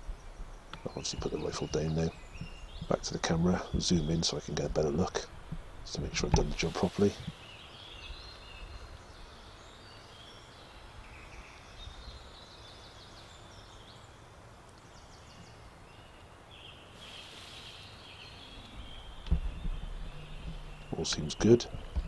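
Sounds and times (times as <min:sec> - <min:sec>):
birds singing: 0:00.0 - 0:22.0
faint low outdoor rumble: 0:00.0 - 0:22.0.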